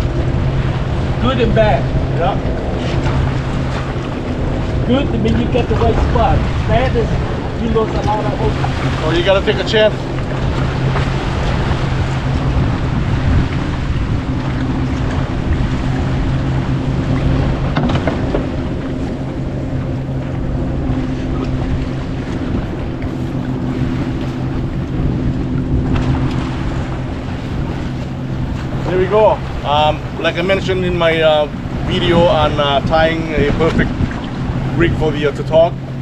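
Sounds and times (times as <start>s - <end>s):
outboard motor idling: 0.0s - 36.0s
water lapping around boat: 0.0s - 36.0s
wind on microphone: 0.0s - 36.0s.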